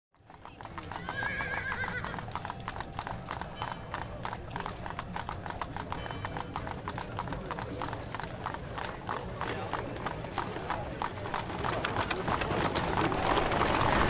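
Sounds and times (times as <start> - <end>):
hooves clip-clopping on street: 0.2 - 14.0.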